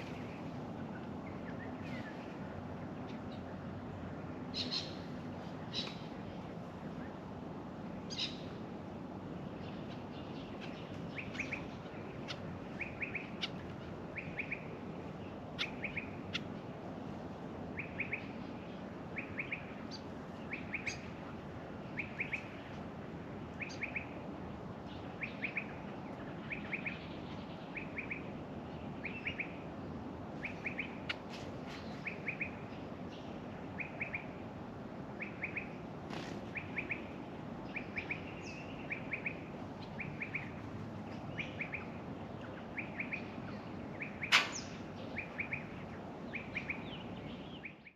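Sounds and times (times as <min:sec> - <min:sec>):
birds chipping: 0:00.0 - 0:47.9
steady low hiss: 0:00.0 - 0:47.9.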